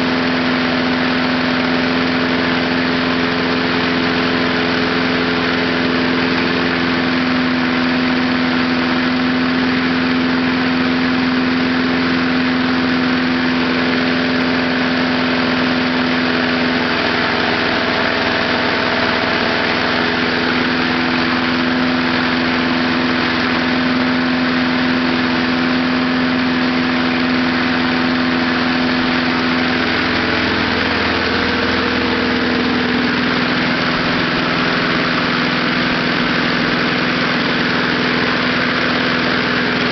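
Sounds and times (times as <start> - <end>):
small lawnmower engine running: 0.0 - 39.9.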